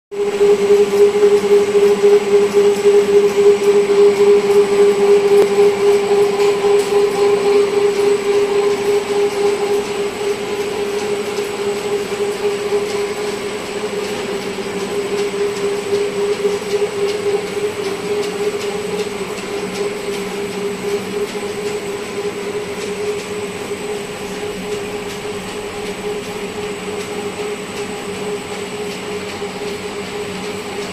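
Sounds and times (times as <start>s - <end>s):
wire-making machinery running: 0.2s - 30.9s.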